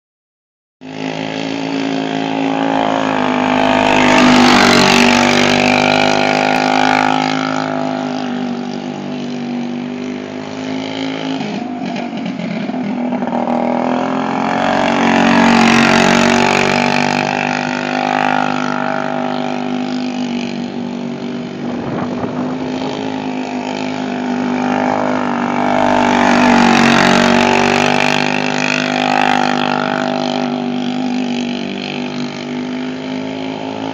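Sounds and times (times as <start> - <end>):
kart engine passing: 0.8 - 33.9.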